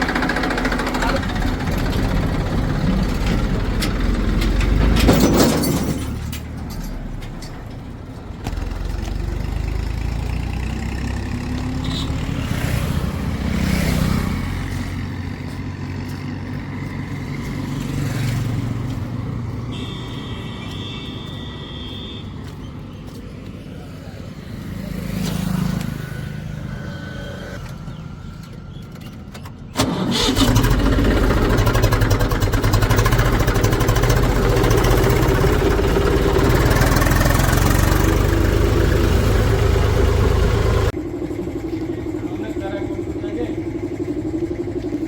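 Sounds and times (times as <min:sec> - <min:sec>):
heavy diesel machinery running: 0:00.0 - 0:23.1, 0:24.2 - 0:45.0.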